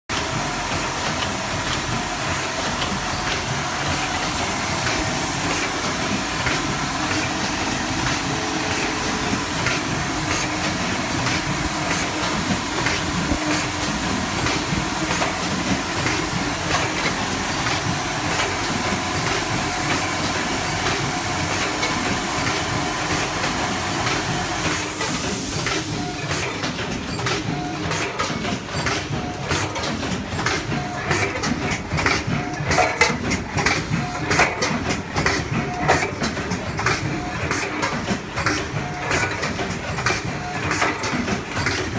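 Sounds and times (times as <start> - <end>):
packing machine clattering: 0.1 - 41.9.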